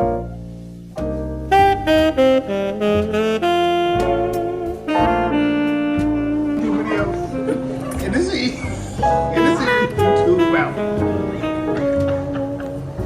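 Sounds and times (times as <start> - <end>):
piano and bass: 0.0 - 13.0
saxophone melody: 0.0 - 13.0.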